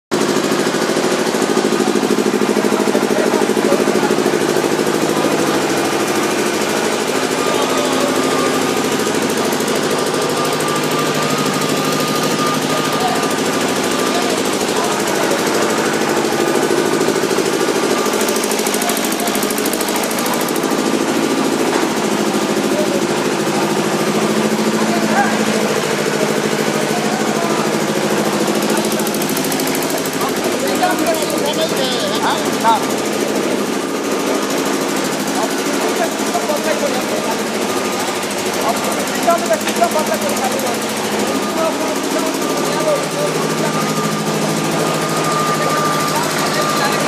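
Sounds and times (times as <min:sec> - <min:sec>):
machine hum with fast pulsing: 0:00.1 - 0:47.0.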